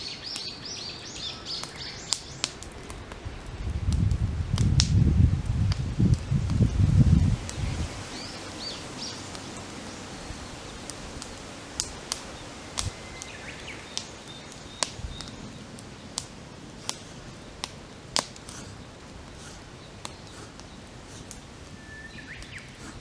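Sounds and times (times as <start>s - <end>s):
birds chirping: 0.0s - 3.7s, 6.0s - 23.0s
campfire crackling and popping: 0.0s - 23.0s.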